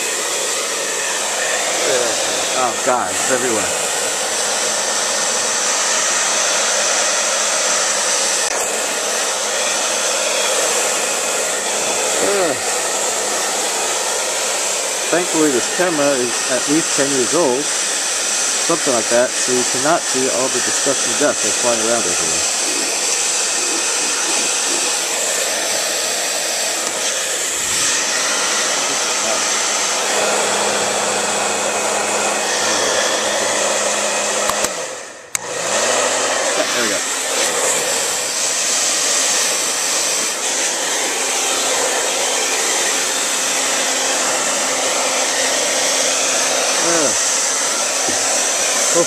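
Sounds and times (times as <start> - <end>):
hair dryer blowing: 0.0 - 49.0.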